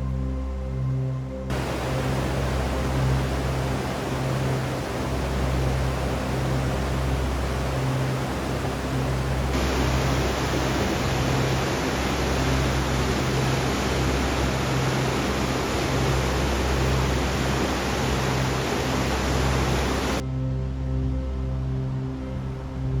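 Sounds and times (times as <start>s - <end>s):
soft background music: 0.0s - 23.0s
river rushing: 1.5s - 20.2s.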